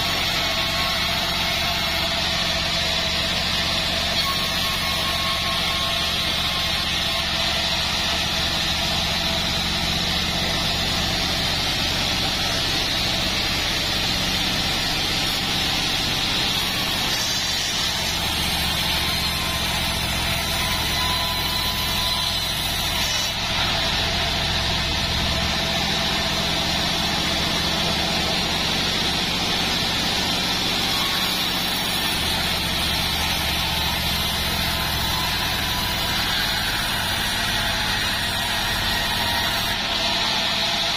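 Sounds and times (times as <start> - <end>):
bandsaw cutting log: 0.0 - 40.9.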